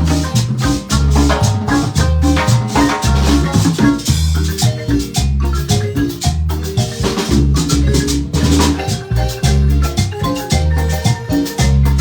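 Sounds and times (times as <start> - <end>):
deep bass beat: 0.0 - 12.0
marimba mallet notes: 0.0 - 12.0
shaker percussion: 0.0 - 12.0.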